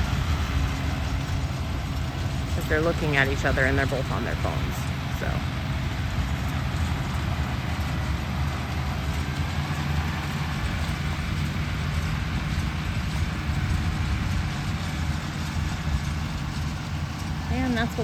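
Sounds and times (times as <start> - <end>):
tractor engine low rumble: 0.0 - 18.0.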